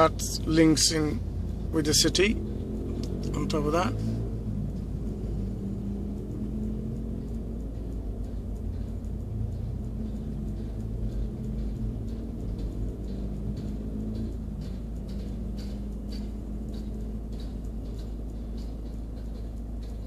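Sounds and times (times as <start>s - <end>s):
car engine idling: 0.0s - 20.0s
faint light ticks: 0.0s - 20.0s.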